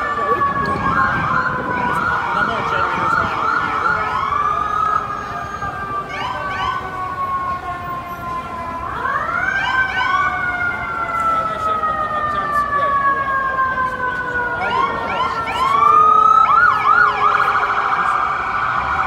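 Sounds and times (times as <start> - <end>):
emergency vehicle siren wailing: 0.0 - 19.0
siren rapid yelping: 0.0 - 19.0.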